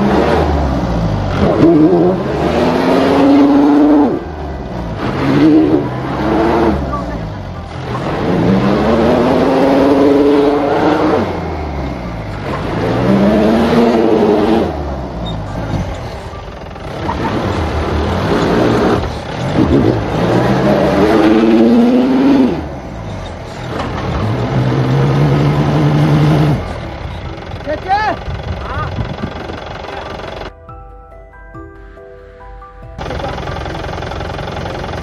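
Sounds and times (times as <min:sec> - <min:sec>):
diesel engine revving: 0:00.0 - 0:30.5, 0:33.0 - 0:35.0.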